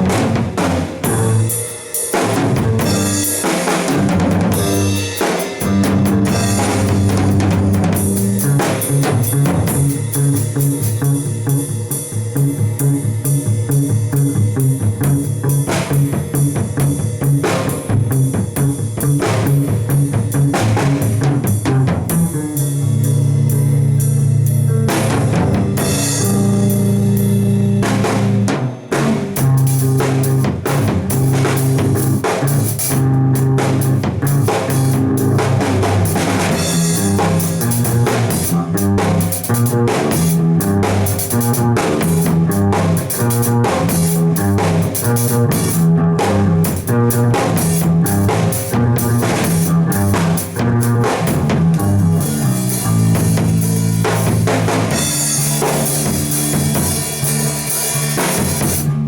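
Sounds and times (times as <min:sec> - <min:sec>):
bass notes: 0:00.0 - 0:59.0
drum kit steady beat: 0:00.0 - 0:59.0
guitar: 0:00.0 - 0:59.0.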